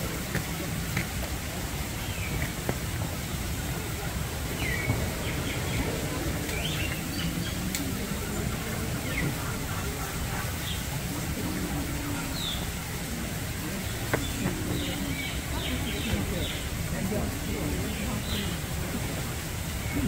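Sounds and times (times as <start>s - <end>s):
distant crowd murmur: 0.0s - 20.0s.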